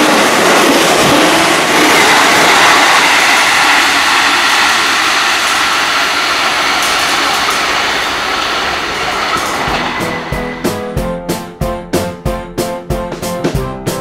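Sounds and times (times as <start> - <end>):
electric train rushing past: 0.0 - 12.1.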